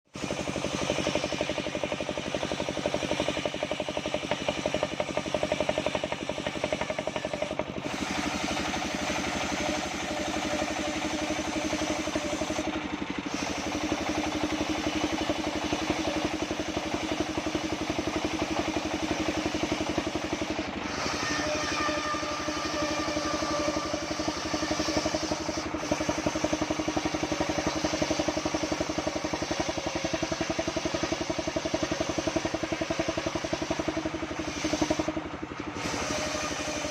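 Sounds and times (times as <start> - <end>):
band saw engine chugging: 0.1 - 36.9.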